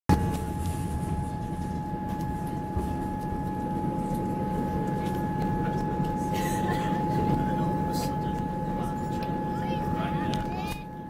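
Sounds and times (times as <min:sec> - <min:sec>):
high-pitched train whine: 0:00.1 - 0:11.0
train rumbling: 0:00.1 - 0:11.0.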